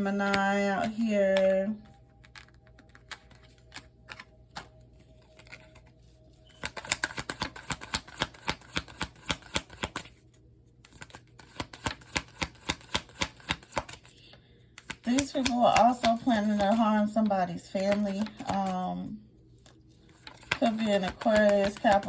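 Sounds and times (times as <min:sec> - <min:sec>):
cards being shuffled: 0:00.0 - 0:14.2, 0:14.8 - 0:22.0.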